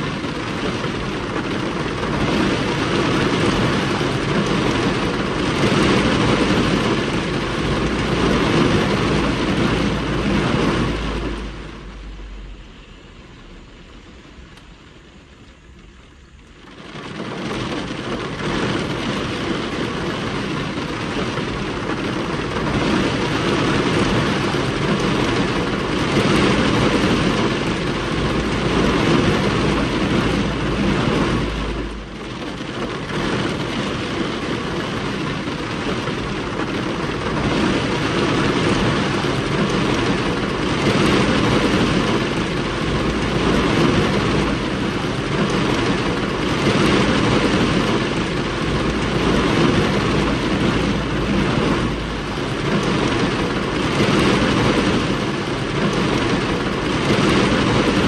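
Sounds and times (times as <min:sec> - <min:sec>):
heavy rain on car windscreen: 0:00.0 - 0:58.0.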